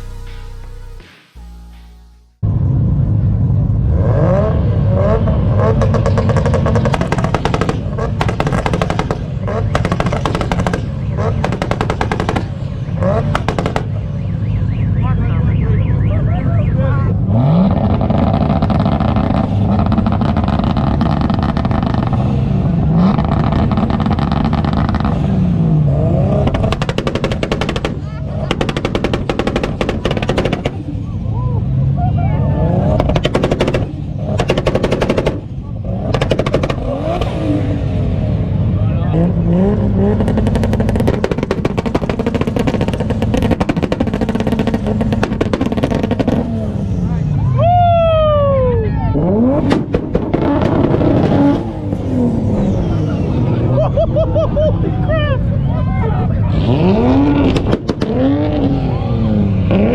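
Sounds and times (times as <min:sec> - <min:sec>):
car engine revving with exhaust pops: 0:02.4 - 0:15.0, 0:17.1 - 0:31.2, 0:32.6 - 0:47.4, 0:49.2 - 0:53.8, 0:56.4 - 0:59.9.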